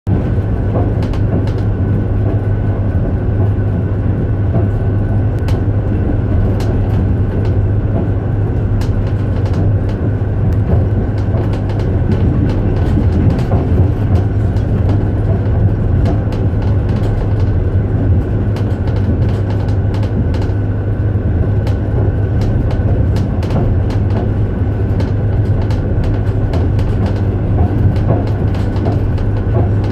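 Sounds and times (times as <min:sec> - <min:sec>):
train rumbling with clicks: 0:00.1 - 0:29.9.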